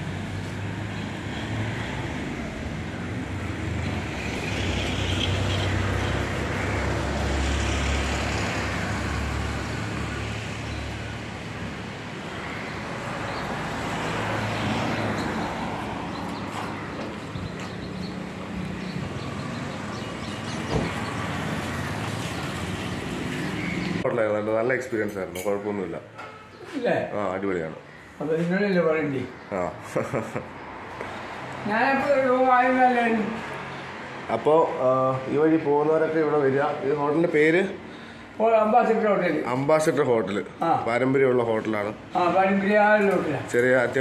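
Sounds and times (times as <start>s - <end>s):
passing vehicles: 0.0s - 44.0s.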